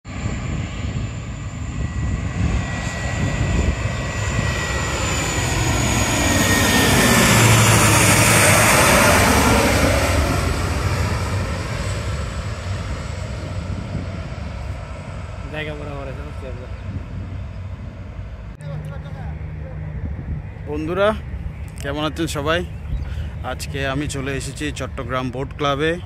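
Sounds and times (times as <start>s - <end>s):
airliner passing overhead: 0.1s - 26.0s
high engine whine: 0.1s - 26.0s.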